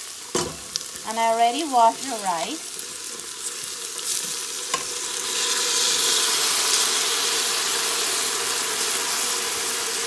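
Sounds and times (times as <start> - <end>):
onions and rice sizzling in oil: 0.0 - 10.0.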